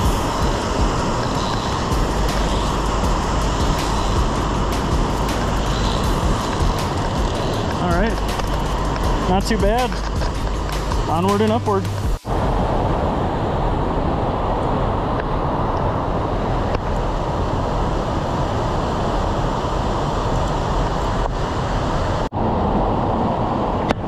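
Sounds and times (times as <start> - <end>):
river rushing through gorge: 0.0 - 23.9.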